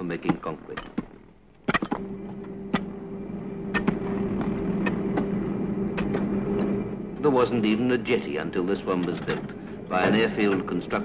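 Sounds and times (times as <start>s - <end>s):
machine engine humming: 1.8s - 11.0s.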